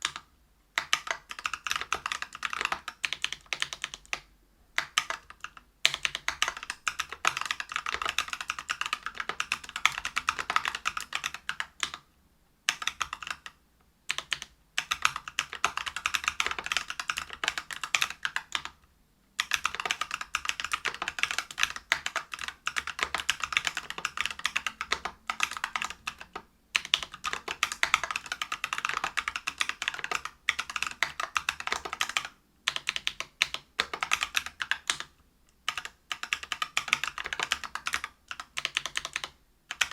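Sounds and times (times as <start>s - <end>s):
fast mechanical keyboard typing: 0.0s - 0.2s, 0.8s - 12.0s, 12.7s - 18.8s, 19.4s - 35.1s, 35.7s - 39.9s.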